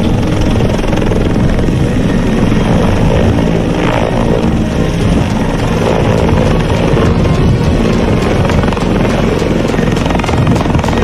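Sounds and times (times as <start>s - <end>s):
helicopter rotor and turbine engines: 0.0s - 11.0s.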